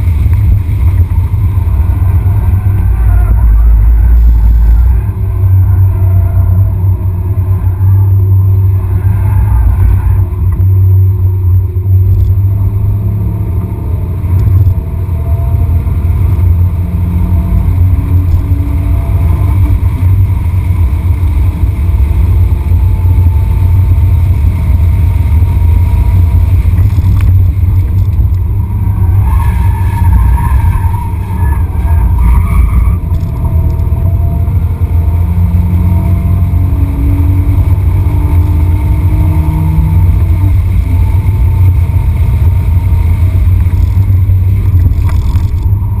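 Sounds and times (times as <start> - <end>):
car engine running hard: 0.0 - 46.0
road and wind noise: 0.0 - 46.0.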